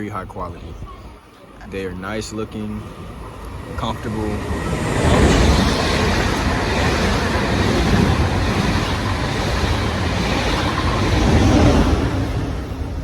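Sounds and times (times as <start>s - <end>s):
train passing at high speed: 1.5s - 13.0s.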